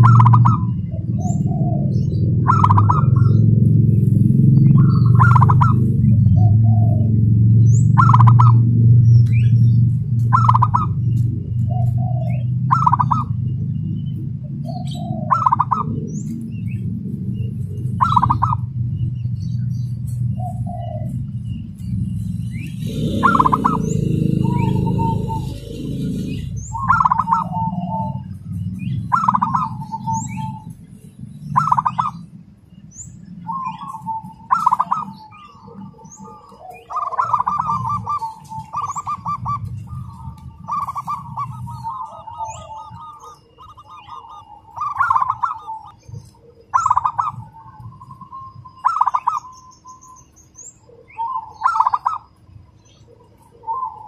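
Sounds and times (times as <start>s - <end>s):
dove cooing: 0.0s - 32.4s, 33.3s - 50.1s, 50.7s - 54.0s.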